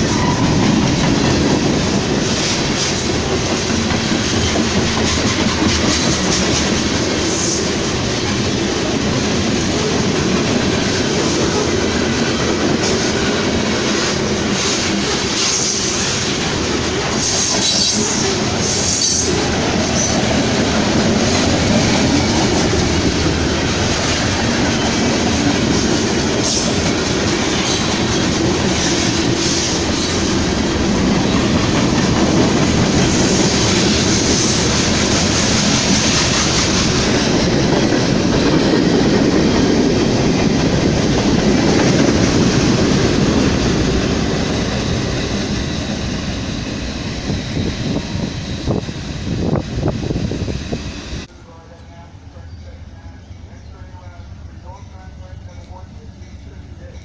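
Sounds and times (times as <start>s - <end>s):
railroad cars rolling past: 0.0s - 57.0s.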